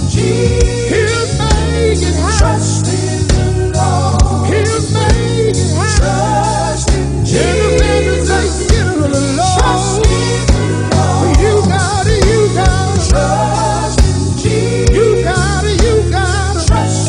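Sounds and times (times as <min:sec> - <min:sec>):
band with bass and drums: 0:00.0 - 0:17.0
person singing gospel: 0:00.0 - 0:17.0.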